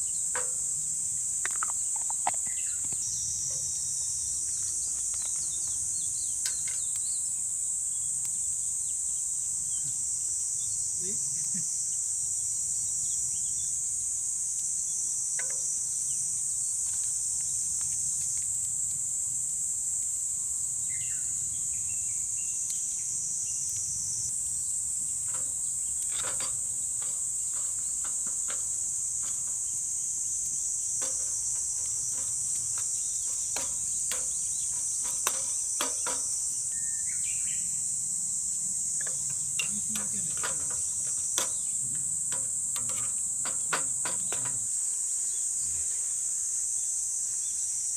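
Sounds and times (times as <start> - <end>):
campfire crackling: 0.0 - 46.1
insects buzzing: 0.0 - 47.9.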